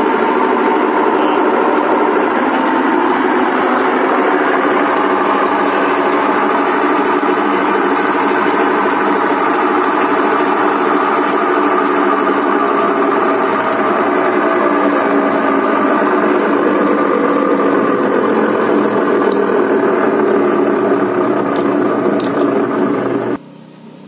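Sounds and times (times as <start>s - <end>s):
washing machine motor whirring: 0.0s - 23.4s.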